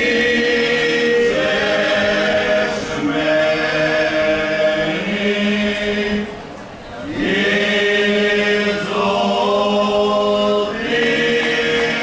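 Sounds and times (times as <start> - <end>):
unaccompanied group singing: 0.0 - 12.0.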